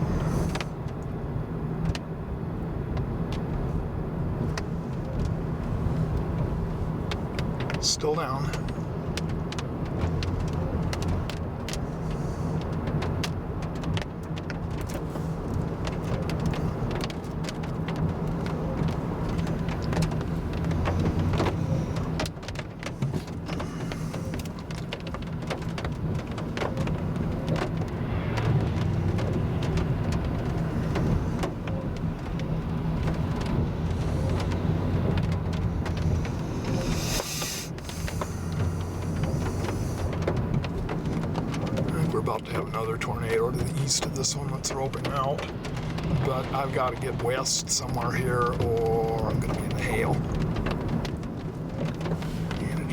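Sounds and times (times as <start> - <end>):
raindrops ticking on car: 0.0 - 52.9
vehicle engine rumble: 0.0 - 52.9.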